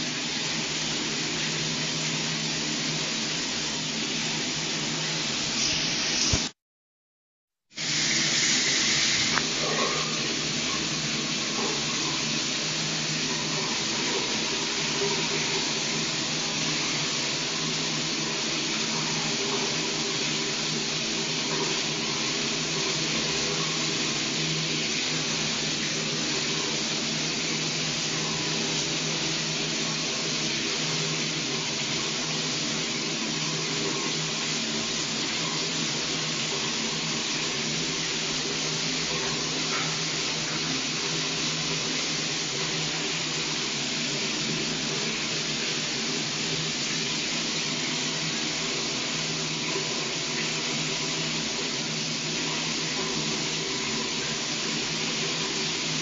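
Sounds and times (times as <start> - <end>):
shower running: 0.0 - 6.6, 7.7 - 56.0.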